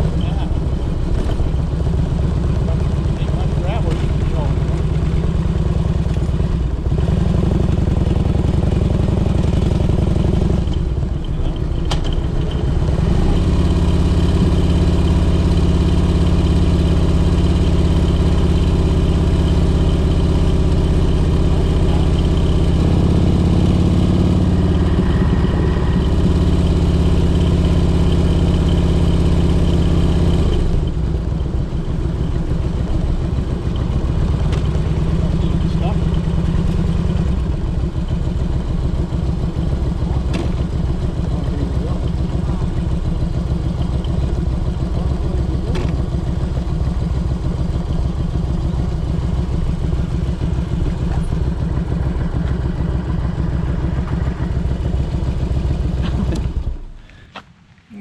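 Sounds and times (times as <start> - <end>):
low motor drone: 0.0 - 57.2.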